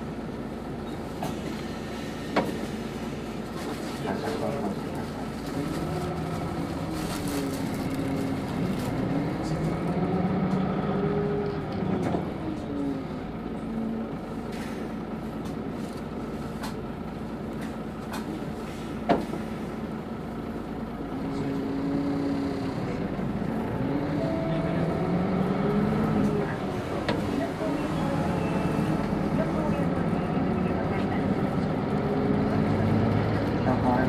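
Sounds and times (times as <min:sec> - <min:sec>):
city bus drivetrain running: 0:00.0 - 0:34.0.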